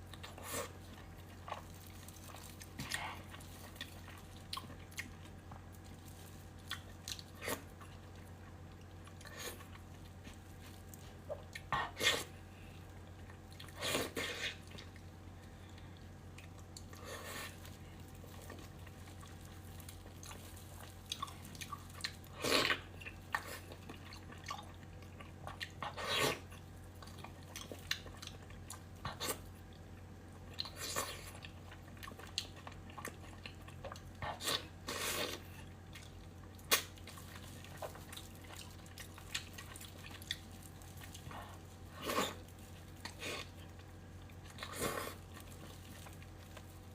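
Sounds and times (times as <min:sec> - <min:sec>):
person chewing and biting: 0:00.0 - 0:12.4, 0:16.3 - 0:46.9
steady low hum: 0:00.0 - 0:46.9.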